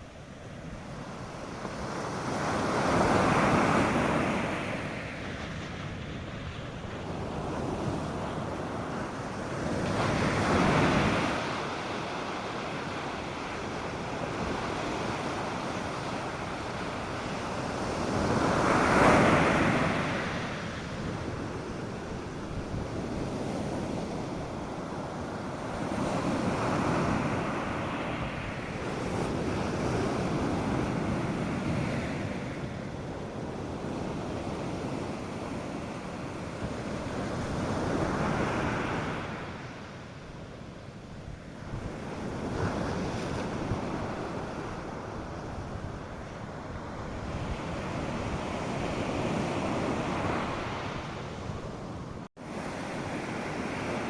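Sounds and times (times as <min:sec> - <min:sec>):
waves crashing: 0:00.0 - 0:54.0
wind on microphone: 0:00.0 - 0:54.0.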